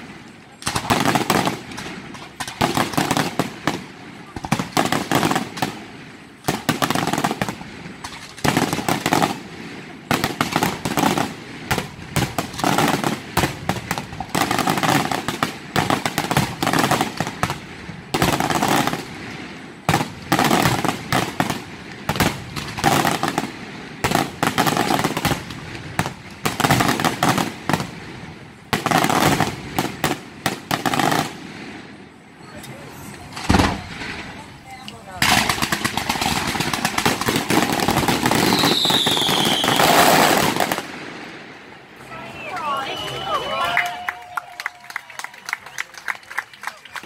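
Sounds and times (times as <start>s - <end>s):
fireworks bursting: 0.0s - 44.1s
fireworks crackles: 0.0s - 47.0s.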